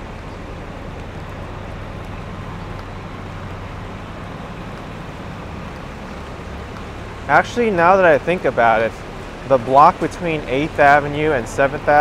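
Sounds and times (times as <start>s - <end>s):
constant low hum: 0.0s - 12.0s
traffic rumble: 0.0s - 12.0s.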